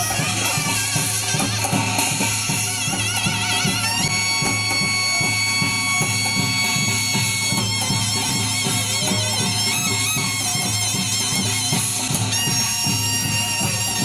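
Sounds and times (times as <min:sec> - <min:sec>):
nasal double-reed wind melody: 0:00.0 - 0:14.0
steady drum beat: 0:00.0 - 0:14.0.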